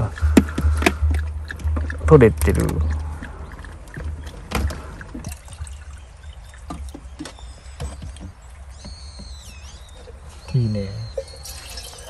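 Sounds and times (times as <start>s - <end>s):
water trickling and splashing: 0.0s - 10.5s, 11.1s - 12.0s.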